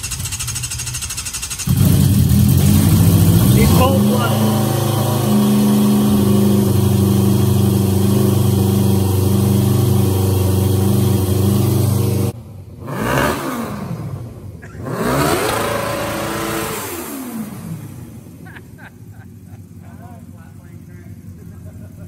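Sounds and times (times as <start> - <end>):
golf cart engine running: 0.0 - 13.0, 13.7 - 22.0.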